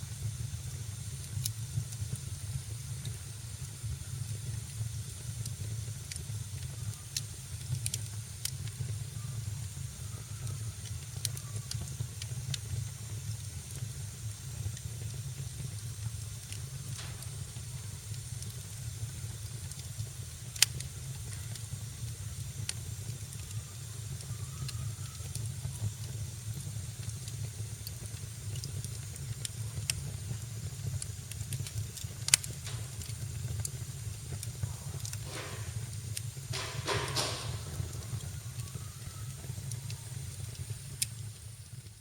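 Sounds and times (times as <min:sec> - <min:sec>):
wood fire crackling in a fireplace: 0:00.0 - 0:42.0
sharp pops of fire: 0:00.1 - 0:42.0.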